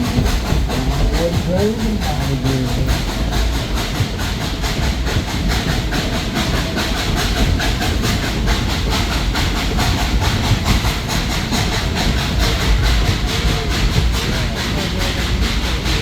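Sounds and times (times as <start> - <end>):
steam train running on track: 0.0 - 16.0.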